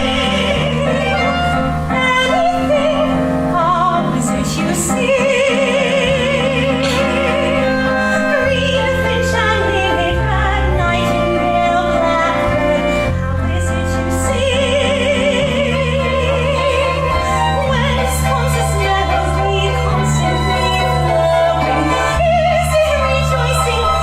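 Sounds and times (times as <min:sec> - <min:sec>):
instrumental accompaniment: 0:00.0 - 0:24.0
woman singing operatically: 0:00.0 - 0:24.0.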